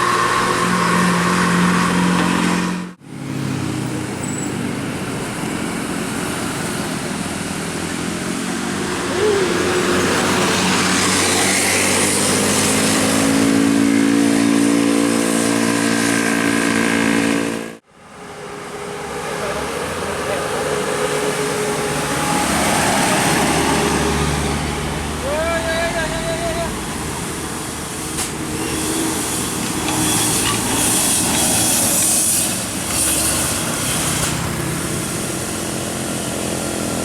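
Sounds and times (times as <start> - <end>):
bus engines running and revving: 0.0 - 37.0.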